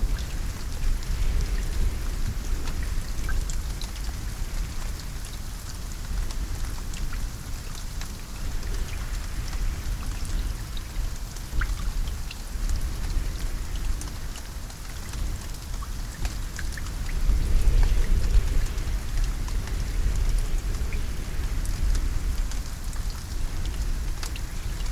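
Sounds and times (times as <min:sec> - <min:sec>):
constant deep rumble: 0:00.0 - 0:24.9
rain with drops striking: 0:00.0 - 0:24.9.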